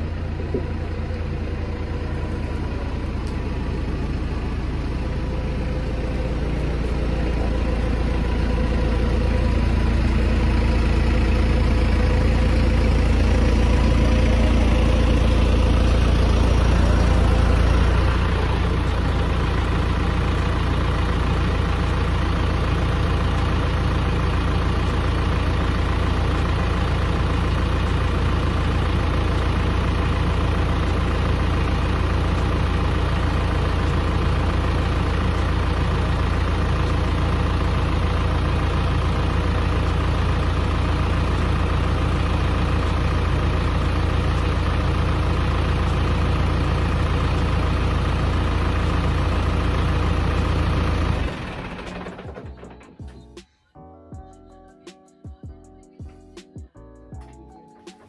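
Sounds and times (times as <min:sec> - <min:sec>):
tractor diesel engine idling: 0:00.0 - 0:57.8.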